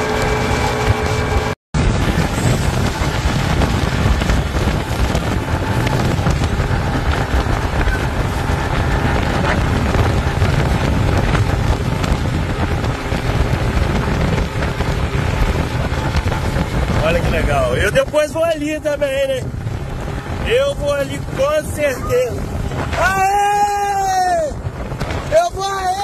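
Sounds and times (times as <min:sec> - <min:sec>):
motorboat engine: 0:00.0 - 0:26.0
water rushing: 0:00.0 - 0:26.0
wind buffeting microphone: 0:00.0 - 0:26.0.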